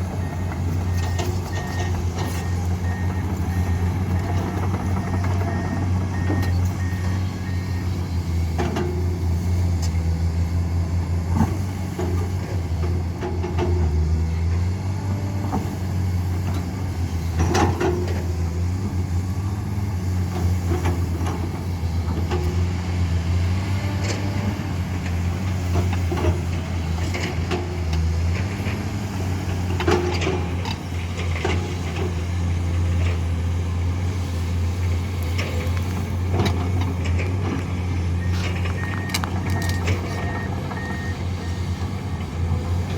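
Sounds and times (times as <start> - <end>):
heavy machinery diesel engines: 0.0 - 42.9.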